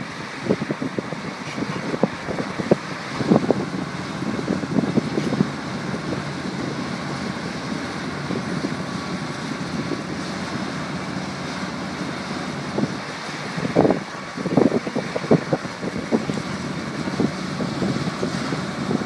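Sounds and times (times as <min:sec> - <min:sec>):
tractor engine running: 0:00.0 - 0:19.0
wind buffeting microphone: 0:00.0 - 0:19.0.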